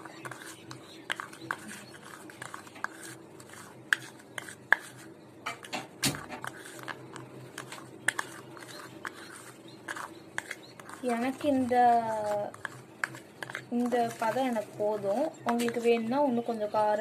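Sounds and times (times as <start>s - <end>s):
spoon scraping a bowl: 0.0s - 17.0s.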